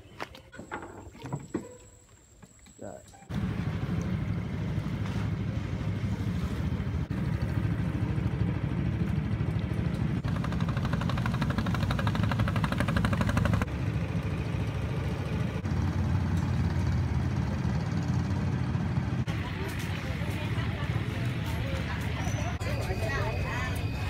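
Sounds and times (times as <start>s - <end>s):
boat motor droning: 3.3s - 24.0s.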